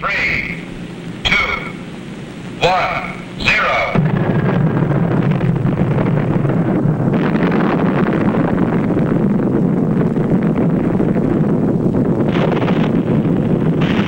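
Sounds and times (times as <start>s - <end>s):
explosion rumbling roar: 0.0s - 14.0s.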